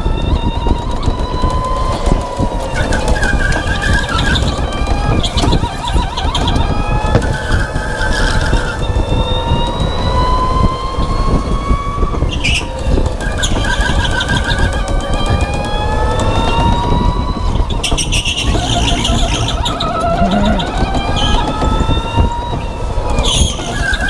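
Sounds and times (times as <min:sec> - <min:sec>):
rumble of tyres: 0:00.0 - 0:24.0
electric motor whining: 0:00.1 - 0:24.0.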